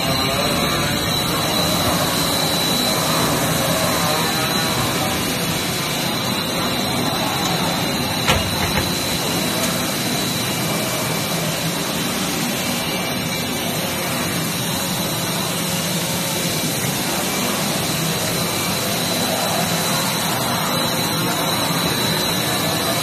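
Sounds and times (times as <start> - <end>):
factory machinery noise: 0.0 - 23.0
thin high whine: 0.0 - 23.0.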